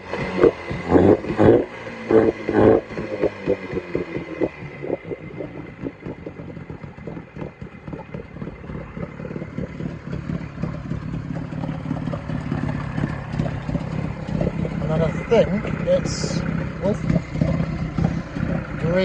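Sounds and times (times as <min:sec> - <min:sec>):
outboard engine pulsing: 0:00.0 - 0:19.0.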